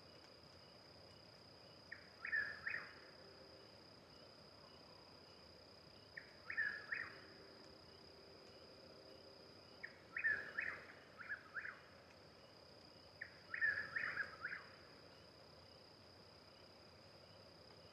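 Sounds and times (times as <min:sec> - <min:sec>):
high insect trill: 0:00.0 - 0:17.9.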